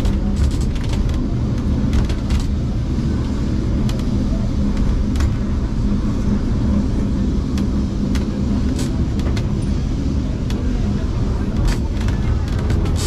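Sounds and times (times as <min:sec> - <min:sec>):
tram rumble and motor hum: 0:00.0 - 0:13.0
wheels clattering on track: 0:00.0 - 0:13.0.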